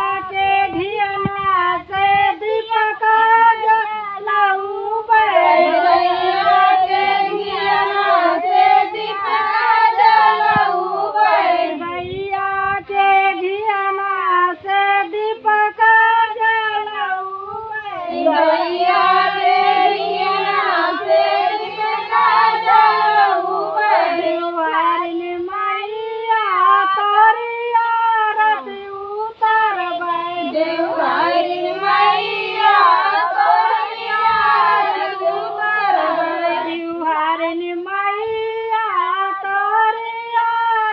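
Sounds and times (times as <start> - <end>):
woman singing: 0.0 - 40.9.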